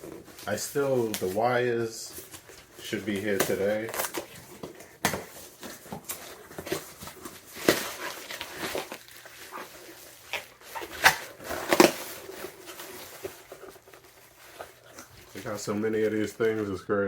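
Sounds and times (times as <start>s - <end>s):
packaging rustling and crinkling: 0.0s - 16.8s.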